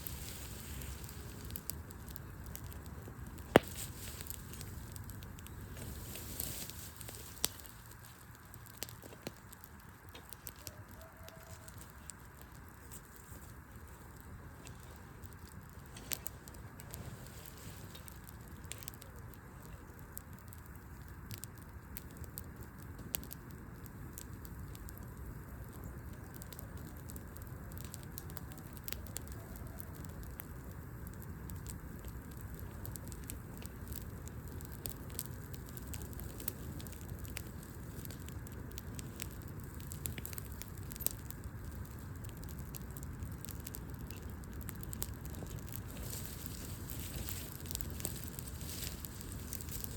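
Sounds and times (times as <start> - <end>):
fire low rumble: 0.0 - 49.9
wood fire crackling: 0.0 - 49.9.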